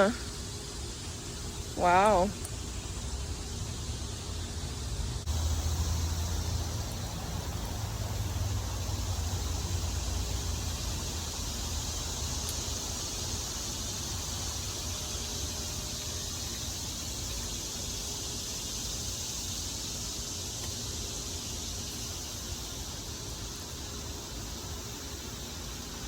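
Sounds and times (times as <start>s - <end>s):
cicadas droning: 0.0s - 26.0s.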